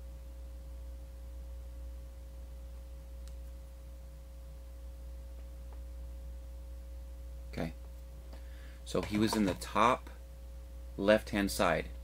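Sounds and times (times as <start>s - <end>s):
faint steady whine: 0.0s - 12.0s
low electrical hum: 0.0s - 12.0s.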